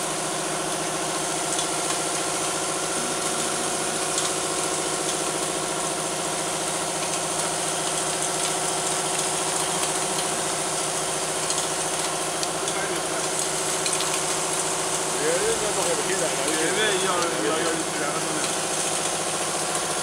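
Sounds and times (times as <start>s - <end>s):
machine humming and pulsing: 0.0s - 20.0s.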